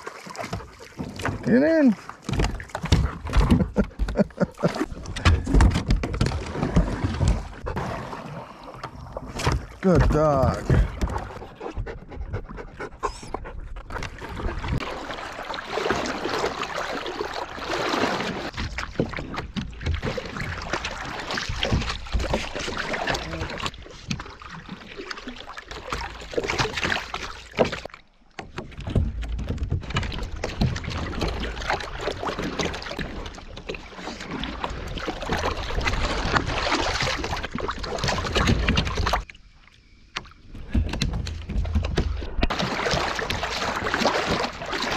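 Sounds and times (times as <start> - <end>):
water splashing against kayak hull: 0.0 - 44.9.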